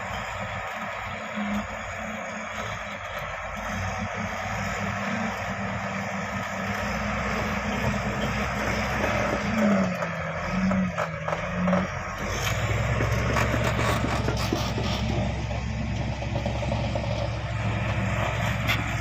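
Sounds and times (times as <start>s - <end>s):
earthmoving machine diesel engine: 0.0s - 19.0s.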